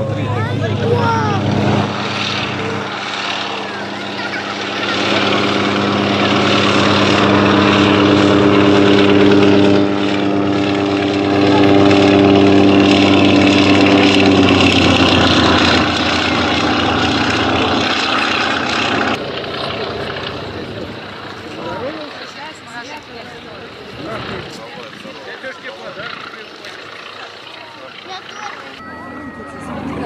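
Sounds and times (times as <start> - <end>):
propeller plane droning overhead: 0.0 - 30.0.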